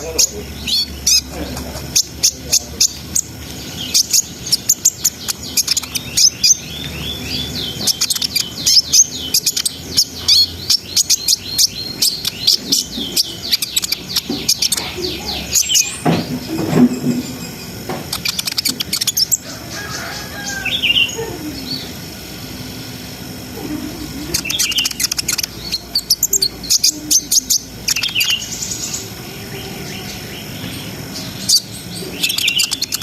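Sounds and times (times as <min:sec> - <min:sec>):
sunbird twittering trills: 0:00.0 - 0:33.0.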